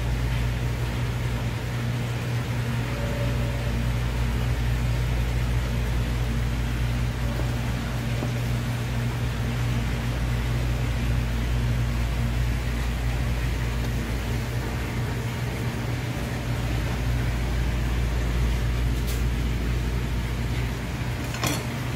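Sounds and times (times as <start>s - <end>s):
machine humming and hissing: 0.0s - 21.9s.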